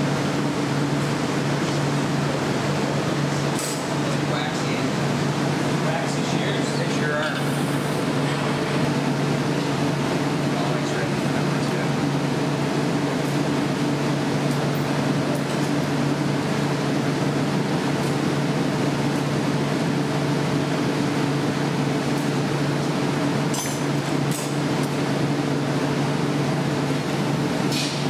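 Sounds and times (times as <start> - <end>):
ventilation fans humming: 0.0 - 28.0.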